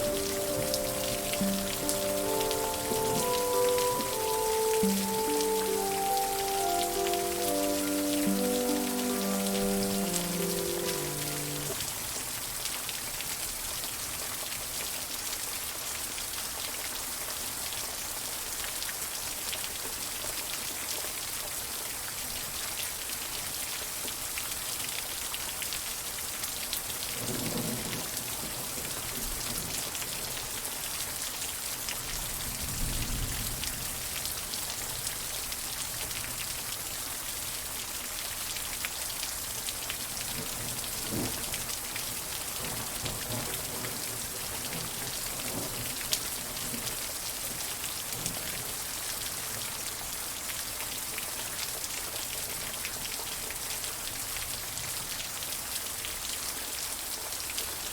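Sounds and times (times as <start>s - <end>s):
rain pattering on surfaces: 0.0s - 57.9s.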